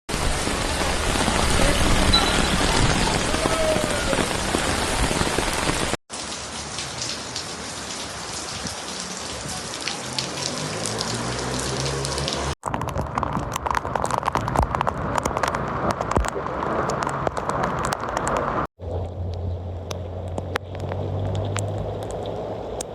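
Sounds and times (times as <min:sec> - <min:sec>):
heavy rain pouring: 0:00.1 - 0:22.9
close drips and splashes: 0:04.3 - 0:22.9.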